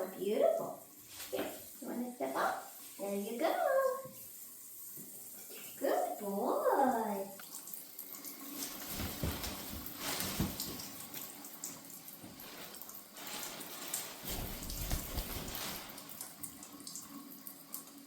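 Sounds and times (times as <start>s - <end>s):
shower water running: 0.0s - 18.0s.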